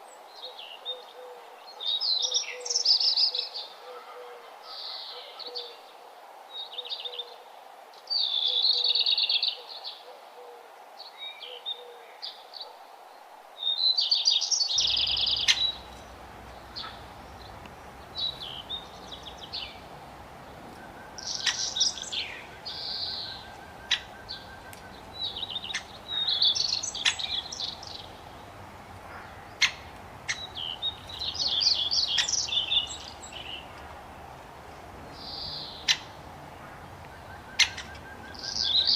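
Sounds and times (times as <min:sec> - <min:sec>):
songbirds singing and chirping: 0:00.0 - 0:38.9
steady background hiss: 0:00.0 - 0:38.9.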